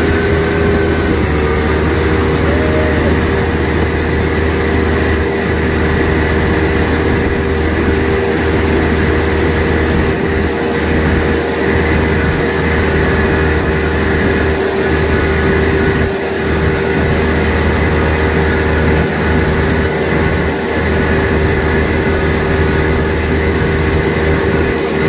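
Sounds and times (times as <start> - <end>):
boat engine droning: 0.0 - 25.0
rushing boat wake: 0.0 - 25.0.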